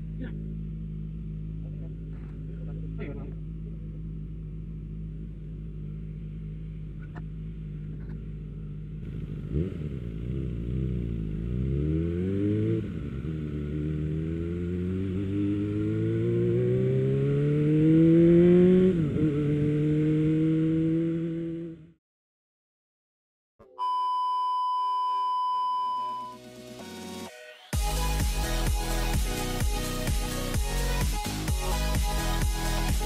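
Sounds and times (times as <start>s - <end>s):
motorcycle engine idling and accelerating: 0.0s - 22.0s, 26.2s - 33.0s.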